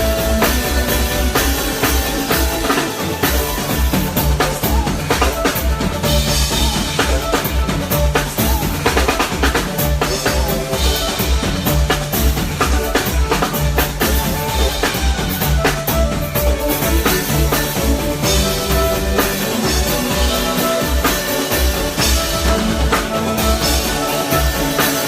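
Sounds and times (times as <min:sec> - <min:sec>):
live band playing: 0:00.0 - 0:25.0.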